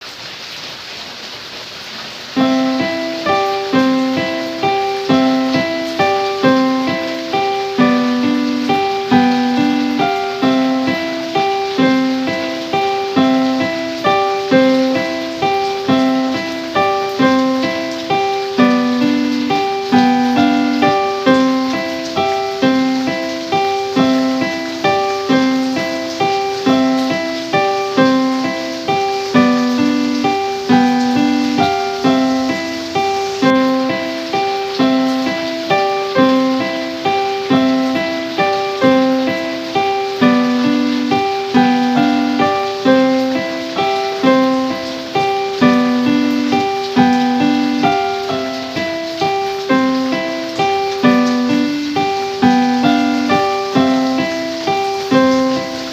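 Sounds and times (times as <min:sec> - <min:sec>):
piano repeating pattern: 0:02.4 - 0:55.9.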